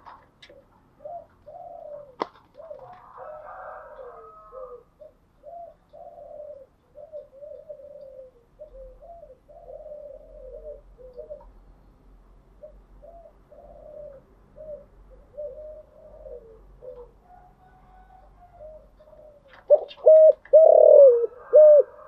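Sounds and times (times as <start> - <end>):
dove cooing: 0.0 - 11.6, 12.6 - 22.0.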